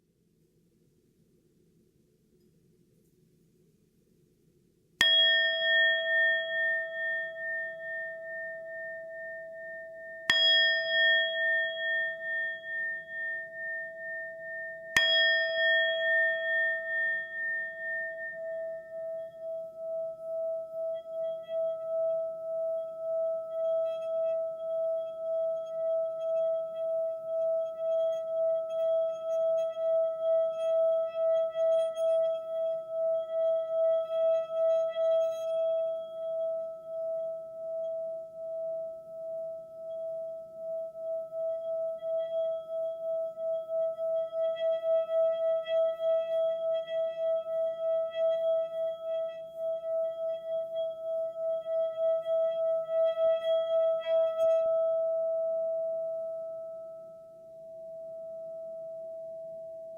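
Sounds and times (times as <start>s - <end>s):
singing bowl ringing: 5.0s - 59.9s
steady wavering tone: 5.0s - 59.9s.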